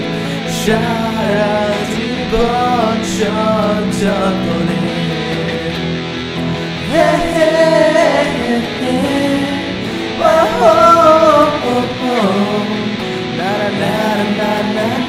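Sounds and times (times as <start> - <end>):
guitar accompaniment: 0.0 - 15.0
person singing: 0.0 - 15.0.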